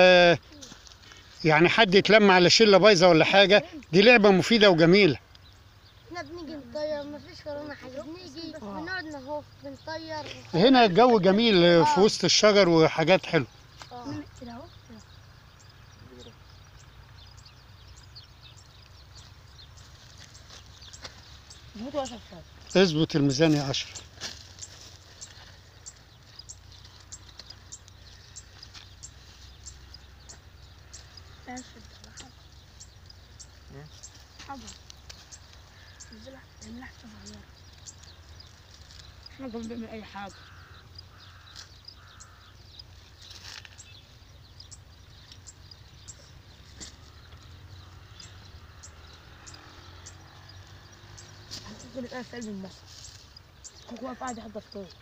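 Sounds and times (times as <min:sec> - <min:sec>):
small bird chirping: 0:00.0 - 0:55.0.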